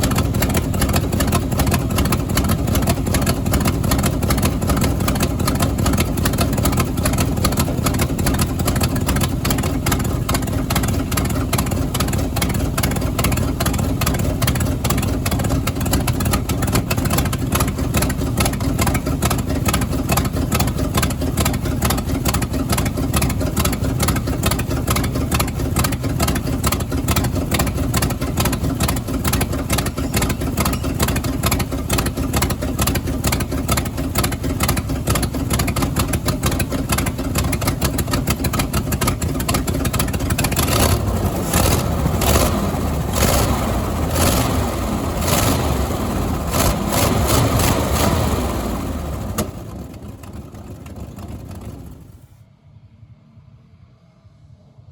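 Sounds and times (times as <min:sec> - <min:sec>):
engine idling and revving: 0:00.0 - 0:52.4.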